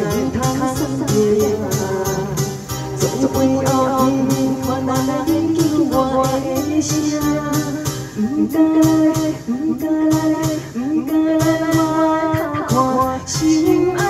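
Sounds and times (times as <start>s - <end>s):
amplified instrumental accompaniment: 0.0s - 14.0s
woman singing into microphone: 0.0s - 14.0s.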